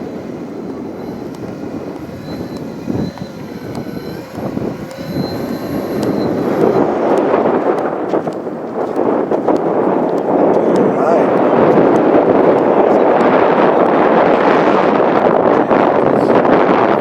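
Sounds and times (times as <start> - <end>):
model airplane propellers buzzing: 0.0 - 17.0.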